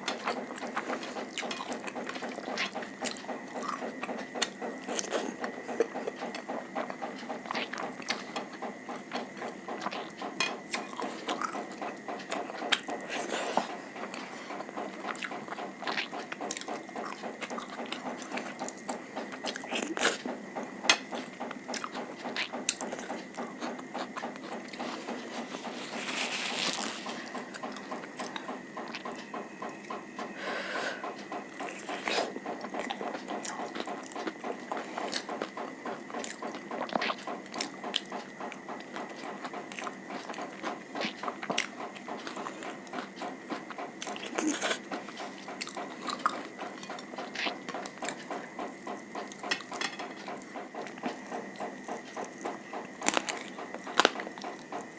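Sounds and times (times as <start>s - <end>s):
food crunching: 0.0s - 20.3s, 21.0s - 29.2s, 31.1s - 54.9s
person chewing food: 0.0s - 54.9s.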